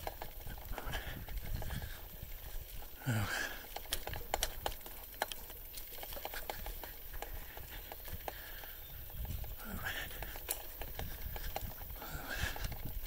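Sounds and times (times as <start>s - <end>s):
bicycle rattling and ticking: 0.0s - 13.0s.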